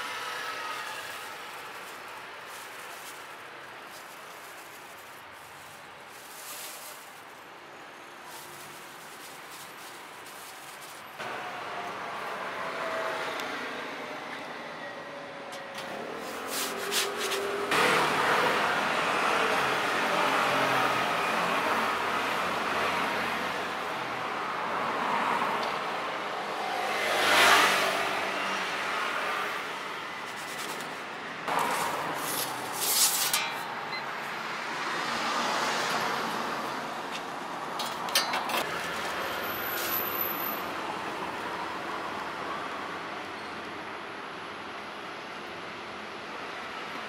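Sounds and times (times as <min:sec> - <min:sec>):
street traffic: 0:00.0 - 0:47.0.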